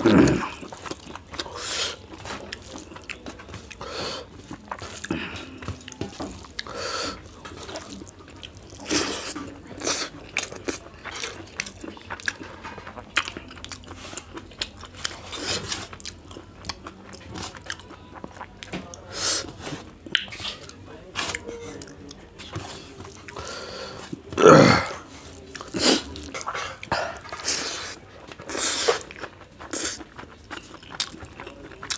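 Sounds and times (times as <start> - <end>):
person chewing and smacking: 0.0 - 31.9.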